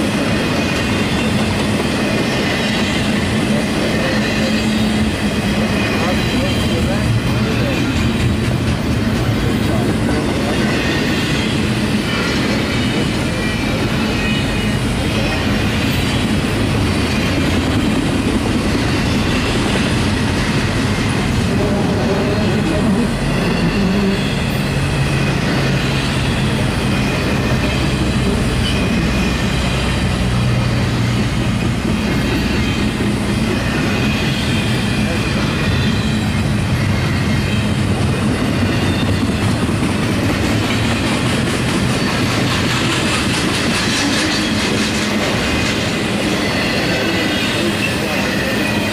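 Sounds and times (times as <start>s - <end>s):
train wheels rumbling and clattering: 0.0s - 48.9s.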